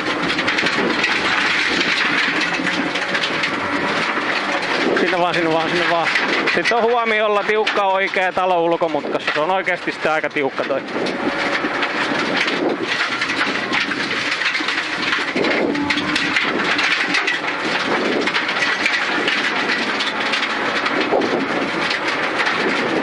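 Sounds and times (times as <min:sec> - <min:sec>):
tyres on gravel: 0:00.0 - 0:23.0.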